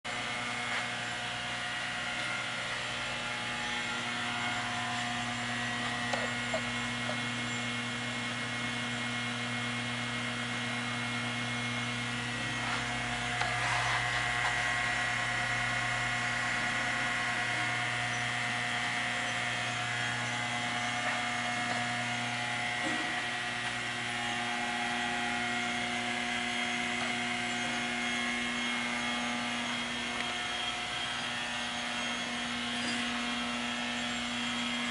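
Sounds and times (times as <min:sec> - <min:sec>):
industrial furnace humming: 0:00.0 - 0:34.9.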